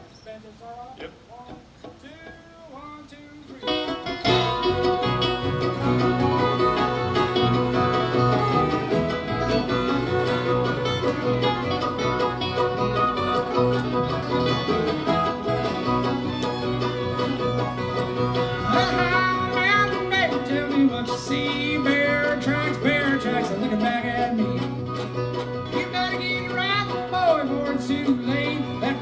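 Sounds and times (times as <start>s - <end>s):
bluegrass band playing: 0.0s - 29.0s
fiddle: 0.0s - 29.0s
upright bass: 3.6s - 29.0s.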